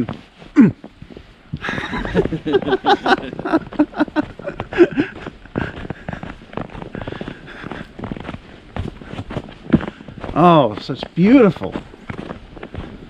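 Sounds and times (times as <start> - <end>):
footsteps crunching in snow: 0.0 - 13.0.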